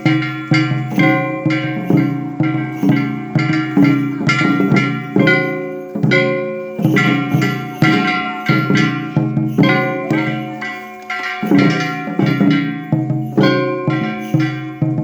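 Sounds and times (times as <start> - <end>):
drum strikes: 0.0 - 15.0
ringing metal gong: 0.0 - 15.0.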